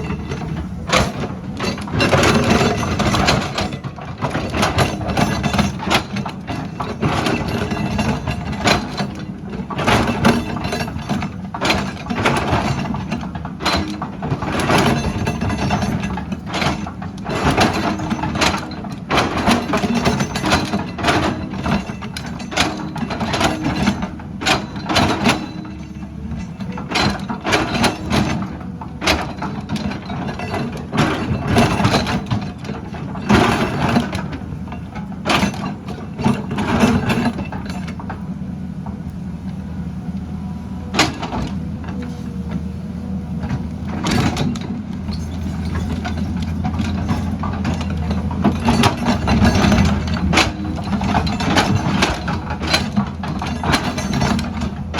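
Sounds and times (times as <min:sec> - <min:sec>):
machine knocks and clatter: 0:00.0 - 0:39.2, 0:40.8 - 0:42.7, 0:43.4 - 0:54.9
excavator diesel engine running: 0:00.0 - 0:54.9.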